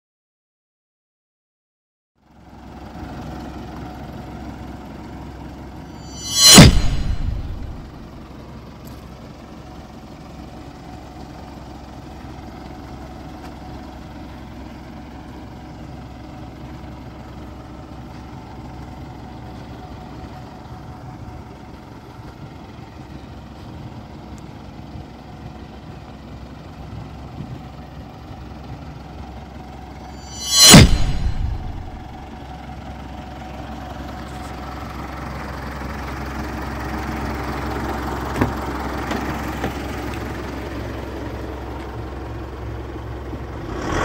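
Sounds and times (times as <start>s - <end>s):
truck engine idling: 2.2s - 6.0s, 8.2s - 30.1s, 32.1s - 44.0s.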